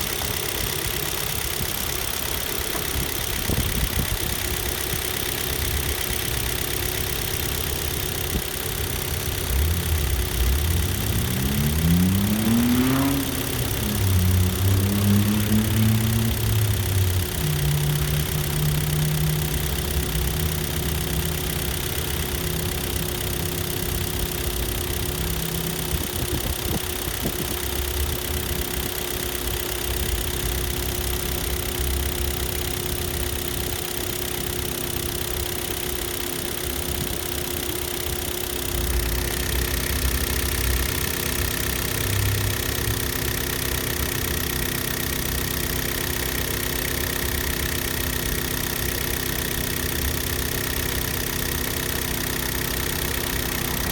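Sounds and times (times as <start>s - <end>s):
petrol engine idling: 0.0s - 12.5s, 13.2s - 53.9s.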